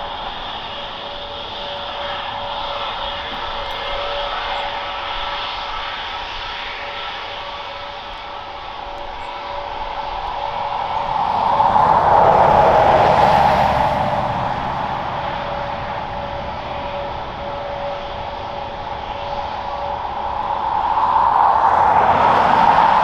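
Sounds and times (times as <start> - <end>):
jet airliner passing: 0.0 - 23.0.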